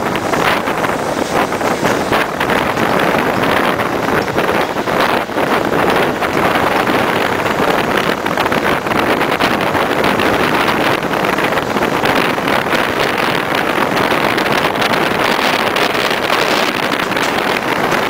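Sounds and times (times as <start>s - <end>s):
train rolling on rails: 0.0s - 18.0s
wind rushing on microphone: 0.0s - 18.0s.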